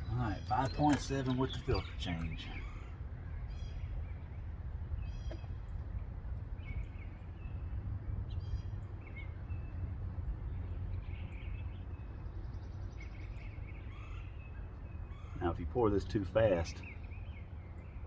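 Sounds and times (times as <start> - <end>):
birds chirping: 0.0 - 18.0
low outdoor rumble: 0.0 - 18.0.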